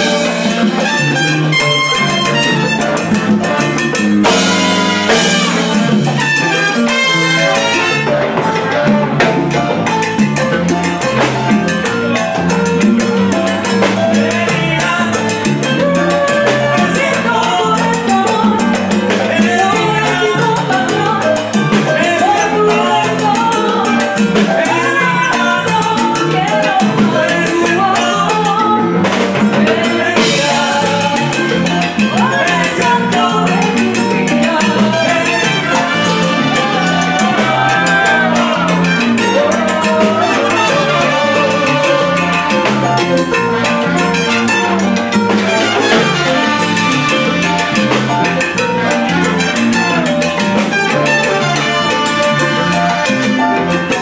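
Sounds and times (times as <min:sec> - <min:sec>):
salsa band playing: 0:00.0 - 0:54.0.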